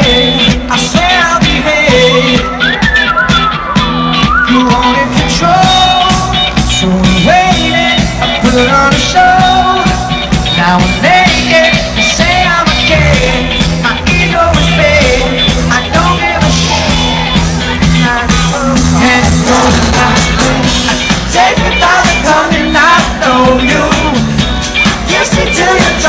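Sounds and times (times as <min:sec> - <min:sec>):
man singing: 0:00.0 - 0:02.9, 0:04.1 - 0:26.0
live pop-rock band playing: 0:00.0 - 0:26.0.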